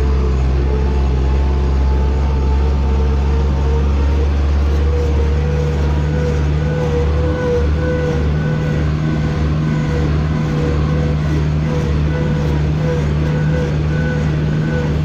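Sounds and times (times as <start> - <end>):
tractor engine running: 0.0 - 15.0
wavering whine: 0.0 - 15.0.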